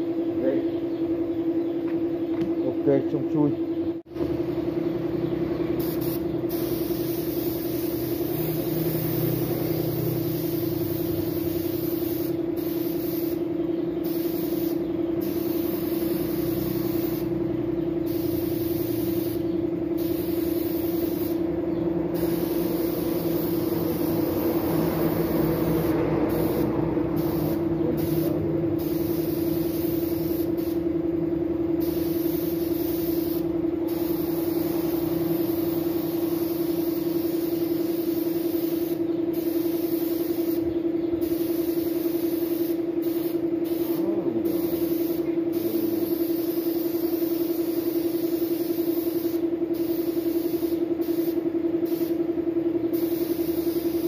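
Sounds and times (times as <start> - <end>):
steady motor hum: 0.0 - 54.0
paint spray gun hissing: 5.8 - 31.0, 31.7 - 52.3, 52.9 - 54.0.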